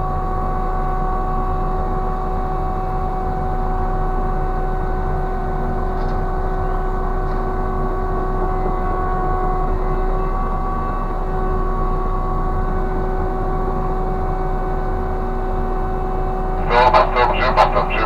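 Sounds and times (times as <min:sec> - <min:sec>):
crane machinery drone and whine: 0:00.0 - 0:18.0.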